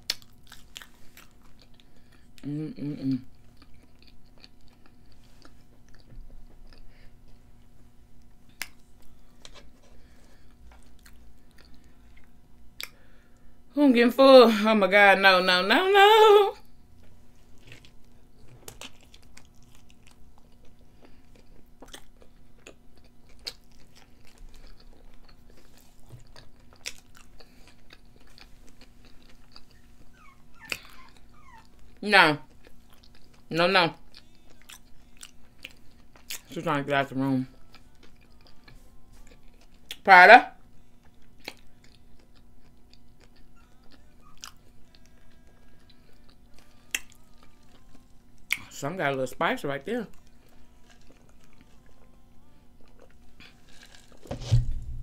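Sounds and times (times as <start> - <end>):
person chewing food: 0.0 - 13.4, 16.9 - 36.5, 37.4 - 40.1, 40.7 - 48.7, 50.1 - 55.0.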